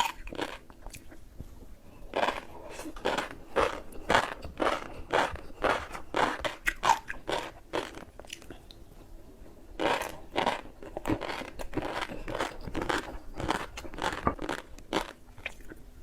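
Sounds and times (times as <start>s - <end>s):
chewing crunchy snack: 0.0s - 1.3s, 1.9s - 8.8s, 9.7s - 15.9s.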